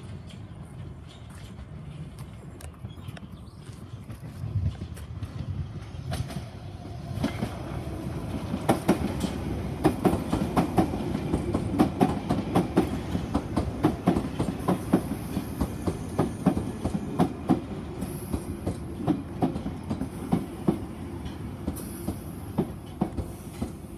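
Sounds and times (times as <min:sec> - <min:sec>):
train rumble: 0:00.0 - 0:23.9
train wheels clicking over rail joints: 0:00.0 - 0:23.9.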